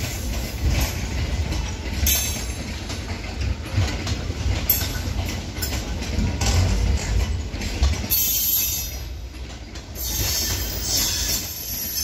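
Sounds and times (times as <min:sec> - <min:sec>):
train rumbling past: 0:00.0 - 0:12.0
wheels clacking over track: 0:00.0 - 0:12.0.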